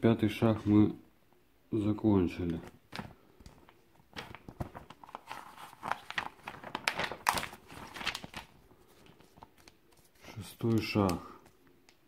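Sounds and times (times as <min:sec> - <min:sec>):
crinkling and rustling: 0:02.3 - 0:12.0.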